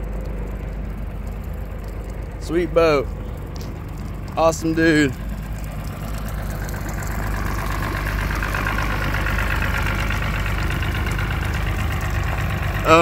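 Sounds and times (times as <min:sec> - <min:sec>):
outboard motors idling: 0:00.0 - 0:13.0.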